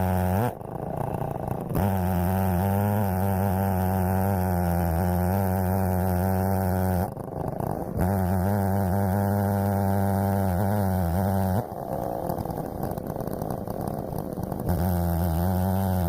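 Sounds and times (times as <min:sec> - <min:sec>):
chainsaw cutting log: 0:00.0 - 0:16.0.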